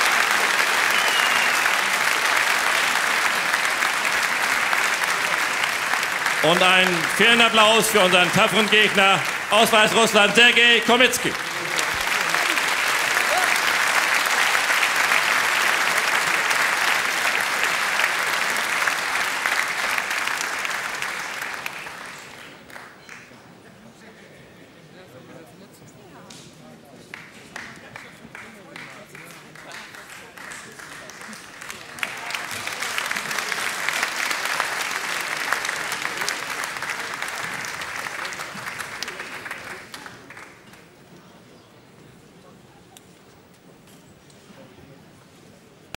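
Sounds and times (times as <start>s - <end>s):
large crowd applauding: 0.0s - 23.6s, 27.1s - 41.2s.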